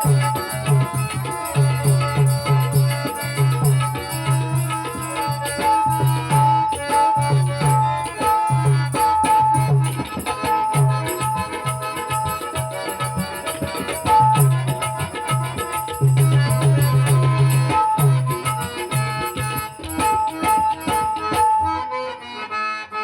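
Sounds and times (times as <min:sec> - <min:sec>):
melody of held notes: 0:00.0 - 0:23.0.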